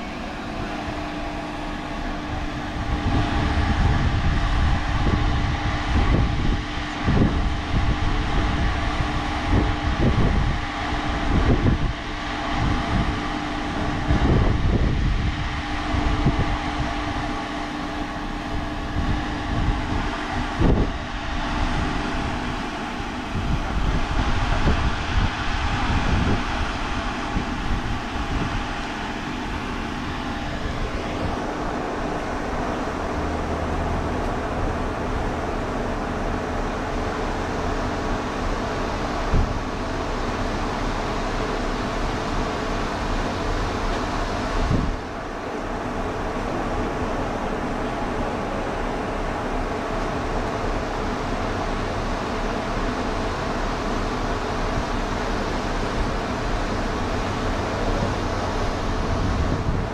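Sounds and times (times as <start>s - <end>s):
faint steady hum: 0.0s - 59.9s
low rumble and hiss: 0.0s - 59.9s.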